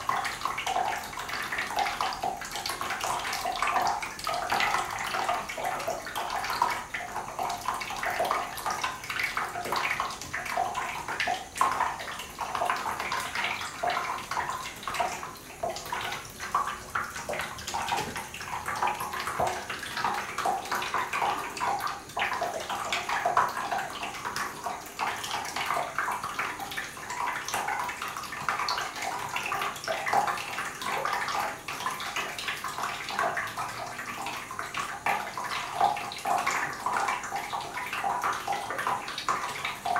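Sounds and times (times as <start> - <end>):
water trickling into a tub: 0.0 - 39.9.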